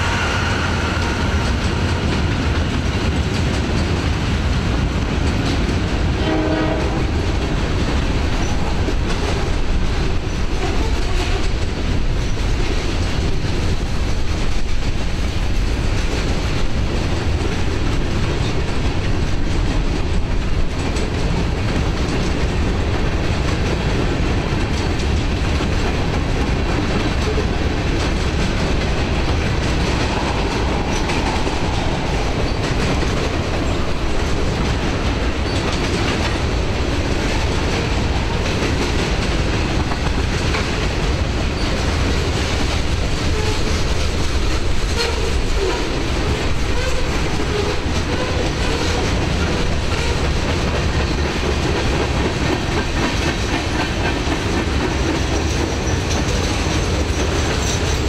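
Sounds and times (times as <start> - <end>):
steel wheels rumbling on rail: 0.0 - 58.0
wheels clicking over rail joints: 1.5 - 58.0.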